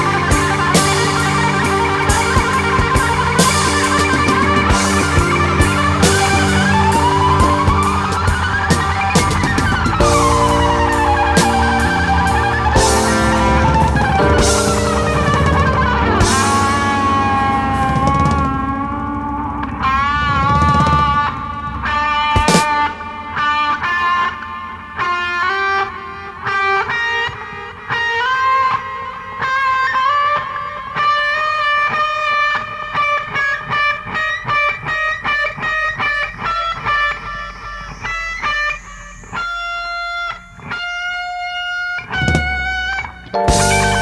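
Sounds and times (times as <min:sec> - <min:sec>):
electric guitar solo: 0:00.0 - 0:44.0.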